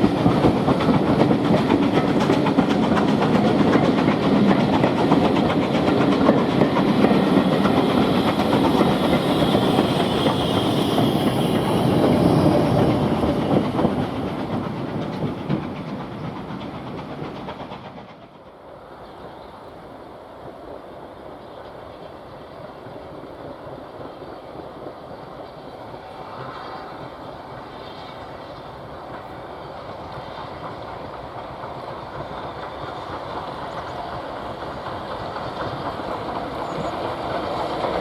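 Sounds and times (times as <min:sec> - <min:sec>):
train wheels clattering over rail joints: 0:00.0 - 0:19.6, 0:23.6 - 0:38.0.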